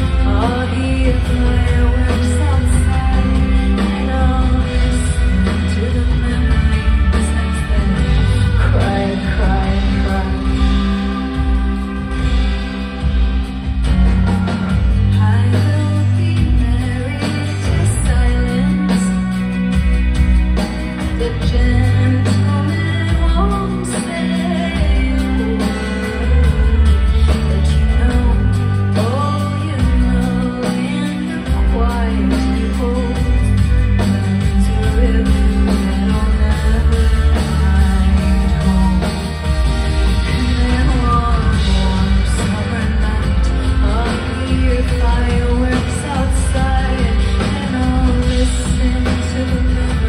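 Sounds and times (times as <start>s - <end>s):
live band playing: 0.0s - 50.0s
woman singing lead vocal: 0.0s - 50.0s.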